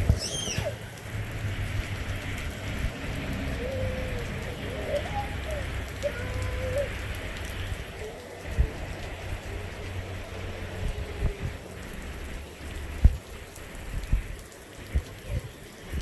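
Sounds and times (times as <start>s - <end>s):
rain pattering on ground: 0.0s - 16.0s.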